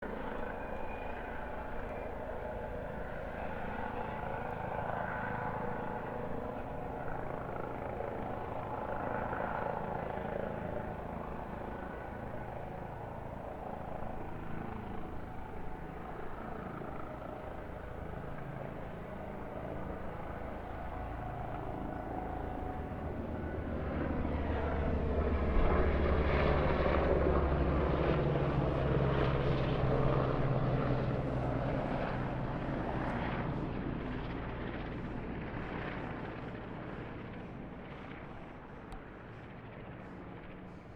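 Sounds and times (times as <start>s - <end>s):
helicopter rotor and engine rumble: 0.0s - 40.9s.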